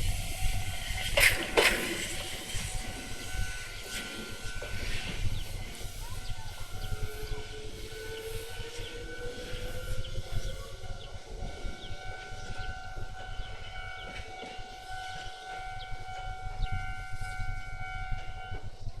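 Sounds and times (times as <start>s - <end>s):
electric train drive whine: 0.0s - 19.0s
train low rumble: 0.0s - 19.0s.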